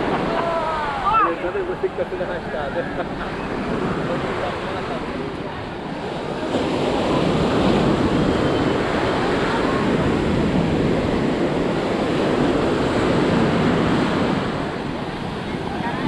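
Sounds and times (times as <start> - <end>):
surf washing onto beach: 0.0 - 16.0
wind on microphone: 0.0 - 16.0.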